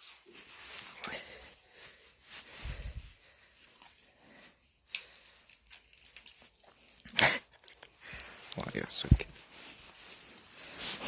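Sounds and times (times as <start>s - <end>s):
soft rustles and clicks: 0.0s - 7.0s, 7.7s - 11.0s.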